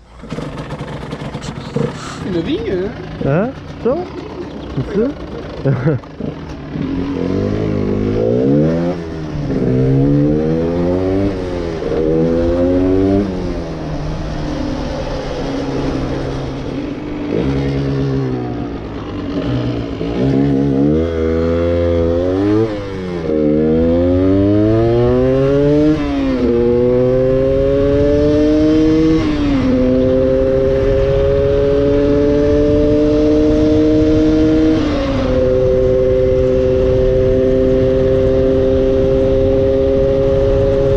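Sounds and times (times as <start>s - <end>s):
two-stroke motorcycle engine accelerating: 0.0s - 40.9s.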